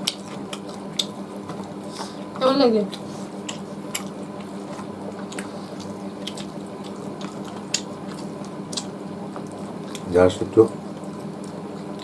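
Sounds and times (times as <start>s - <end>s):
mouths chewing: 0.0s - 12.0s.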